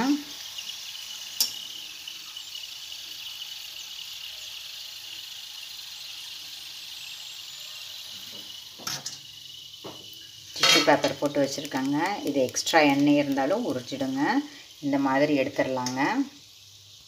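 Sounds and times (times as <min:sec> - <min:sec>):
hot oil sizzling: 0:00.0 - 0:17.0.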